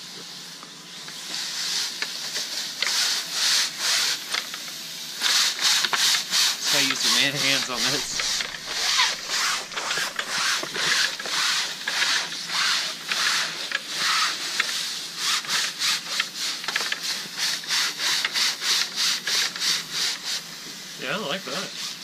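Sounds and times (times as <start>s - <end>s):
screen washer scrubbing window screen: 1.3s - 4.6s, 5.2s - 20.4s.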